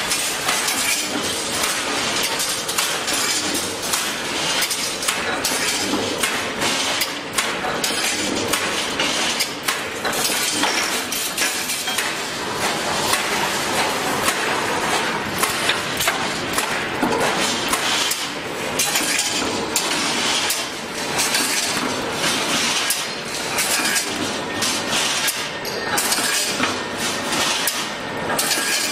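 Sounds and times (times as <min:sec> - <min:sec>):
wire mesh machine clattering: 0:00.0 - 0:28.9.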